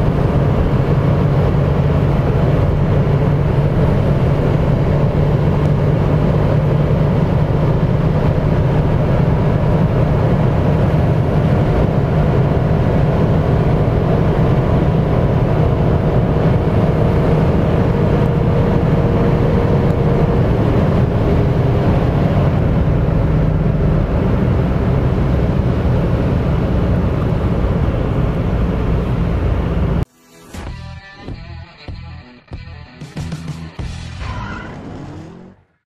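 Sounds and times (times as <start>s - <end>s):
wind noise: 0.0s - 30.0s
car engine droning: 0.0s - 30.1s, 33.3s - 35.8s.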